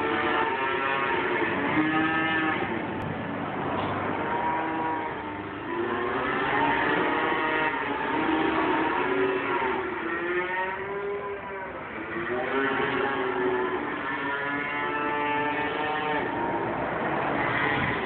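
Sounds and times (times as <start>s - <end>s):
calves mooing and bawling: 0.0s - 3.0s, 4.1s - 18.0s.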